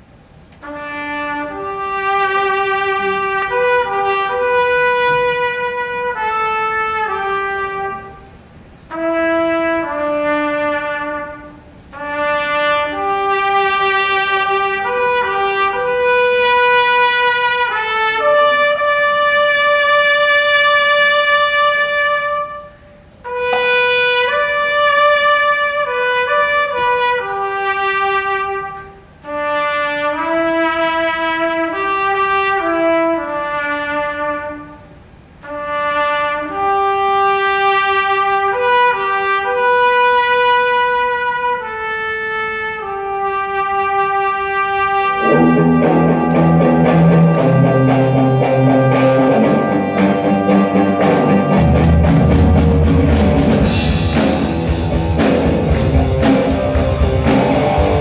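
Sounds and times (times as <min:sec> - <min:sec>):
trumpet melody: 0:00.0 - 0:58.0
live band playing: 0:00.4 - 0:58.0.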